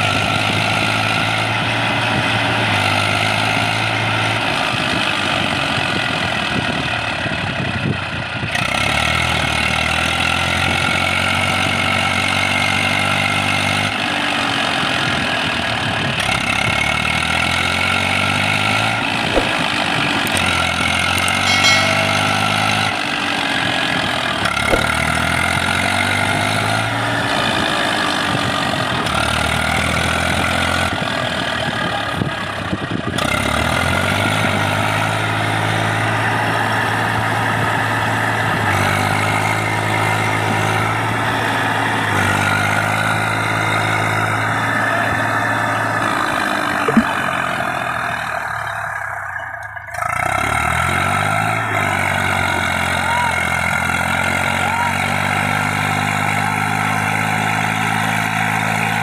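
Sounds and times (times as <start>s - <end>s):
tractor diesel engine labouring: 0.0s - 59.0s.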